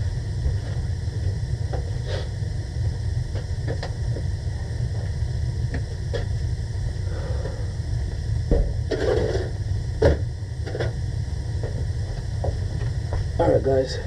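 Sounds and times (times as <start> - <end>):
boiler rumbling: 0.0 - 14.0.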